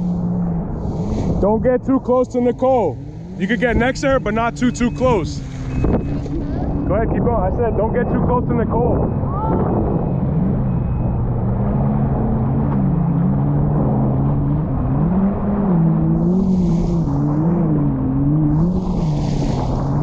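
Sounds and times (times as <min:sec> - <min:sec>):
jet ski engine running: 0:00.0 - 0:12.4, 0:13.0 - 0:20.0.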